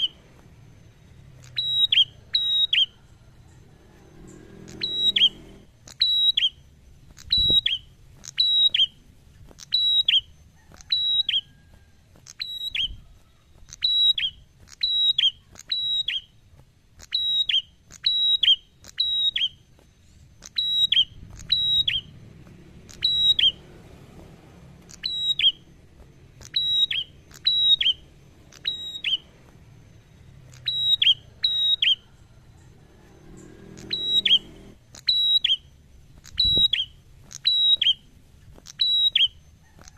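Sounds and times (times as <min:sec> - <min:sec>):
bird singing sharp whistled notes: 0:00.9 - 0:03.0, 0:04.1 - 0:09.0, 0:09.6 - 0:11.7, 0:12.3 - 0:16.4, 0:17.0 - 0:19.6, 0:20.4 - 0:23.7, 0:24.9 - 0:39.6.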